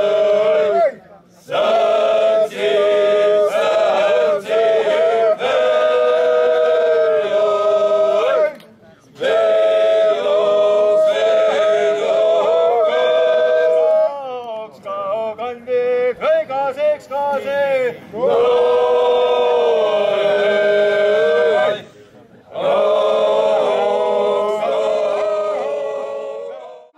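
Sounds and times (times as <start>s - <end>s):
male choir singing a cappella: 0.0s - 8.5s, 9.2s - 14.2s, 18.1s - 26.9s.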